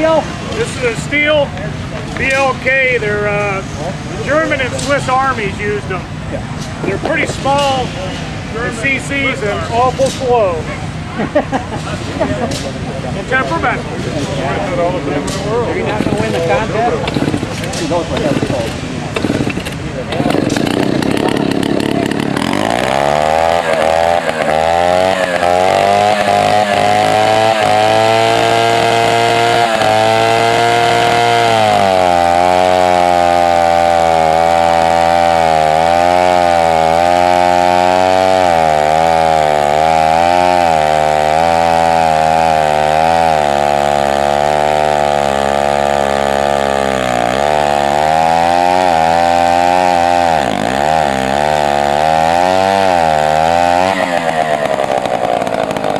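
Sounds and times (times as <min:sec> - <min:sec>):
chainsaw running: 0:00.0 - 0:55.9.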